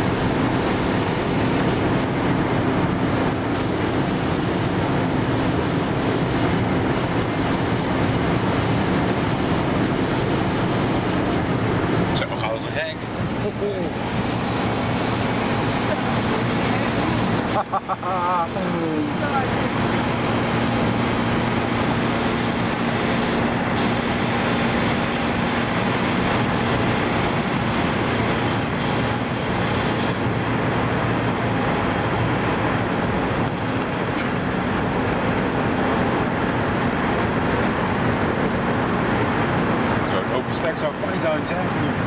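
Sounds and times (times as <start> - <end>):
low engine hum: 0.0 - 42.0
road and wind noise: 0.0 - 42.0.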